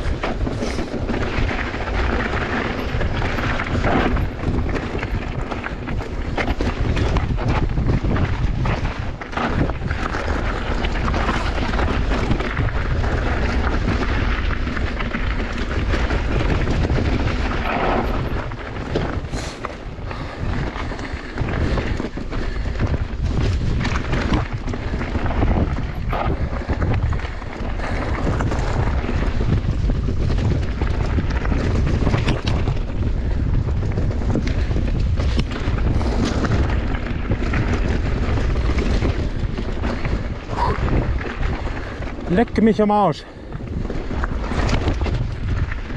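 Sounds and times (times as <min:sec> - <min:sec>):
bike rattling over bumps: 0:00.0 - 0:45.9
tyres running over dirt: 0:00.0 - 0:45.9
wind buffeting microphone: 0:00.0 - 0:45.9.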